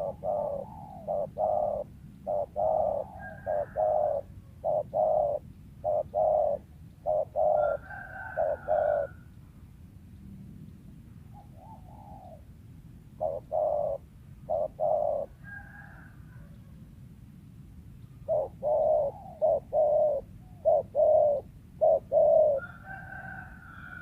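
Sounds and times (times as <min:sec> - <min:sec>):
dove cooing: 0:00.0 - 0:09.4, 0:11.3 - 0:12.5, 0:13.1 - 0:16.8, 0:18.0 - 0:24.0.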